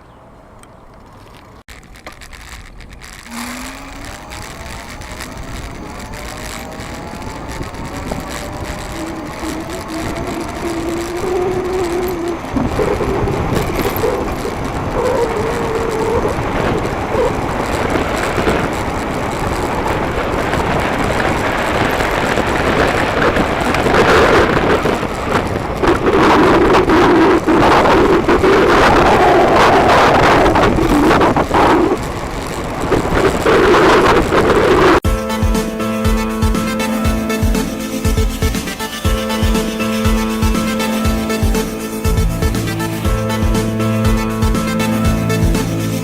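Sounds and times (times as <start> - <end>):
wind noise on microphone: 0.0 - 46.0
electric bike motor whining: 1.1 - 46.0.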